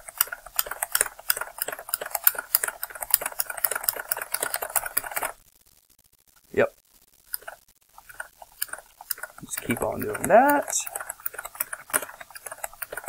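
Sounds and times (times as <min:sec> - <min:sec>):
computer keyboard clacking: 0:00.0 - 0:05.4, 0:07.3 - 0:13.0.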